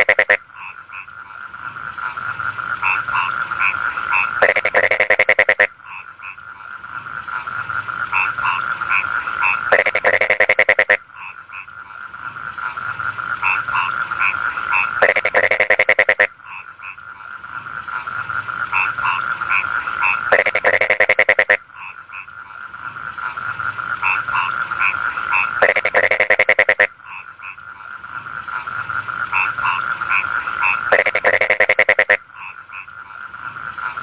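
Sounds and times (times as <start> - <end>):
loud rapid croaking call: 0.0 - 6.7, 7.3 - 34.0
frogs trilling chorus: 0.0 - 34.0.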